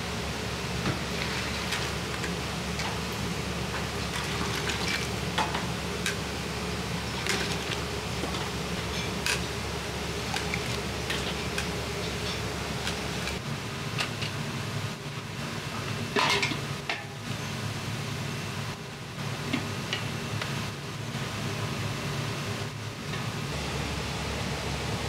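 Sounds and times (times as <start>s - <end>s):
gas burner and exhaust rumble: 0.0s - 25.0s.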